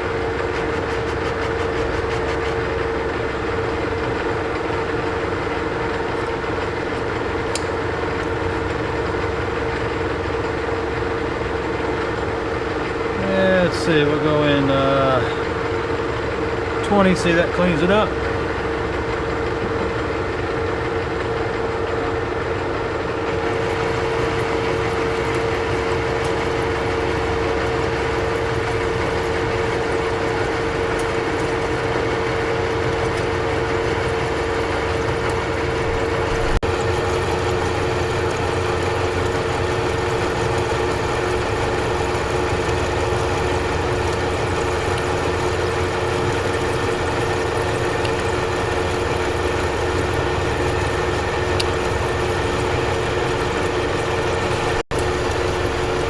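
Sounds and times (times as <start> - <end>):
lathe gear whine: 0.0 - 56.0.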